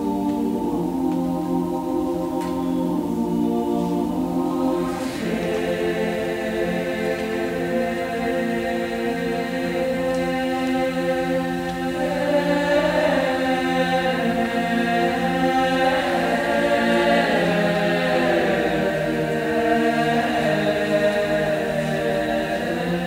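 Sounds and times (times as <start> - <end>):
choir singing a hymn a cappella: 0.0 - 23.0.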